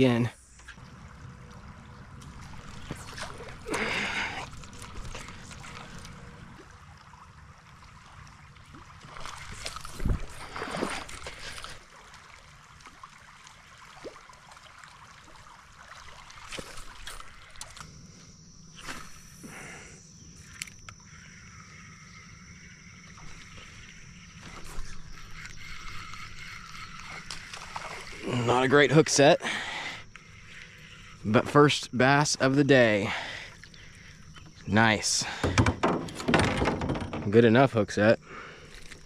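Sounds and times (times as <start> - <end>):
creek water trickling: 0.0 - 39.0
water splashing: 0.7 - 17.9, 23.0 - 37.6.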